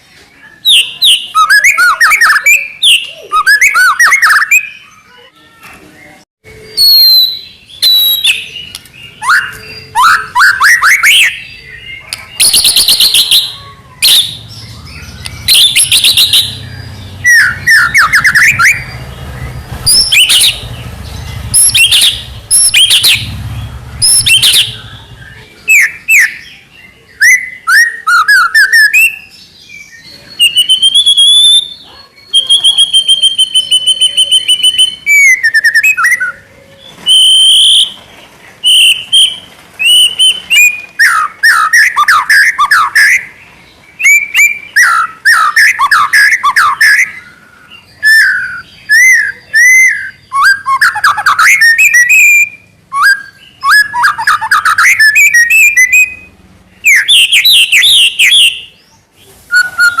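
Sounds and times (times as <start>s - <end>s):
bird singing whistled trills: 0.4s - 5.1s, 6.0s - 38.0s, 38.6s - 58.9s.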